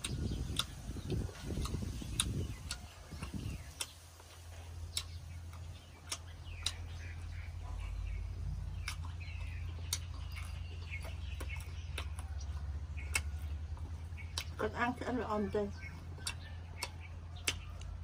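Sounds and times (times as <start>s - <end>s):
chewing clicks: 0.0s - 18.0s.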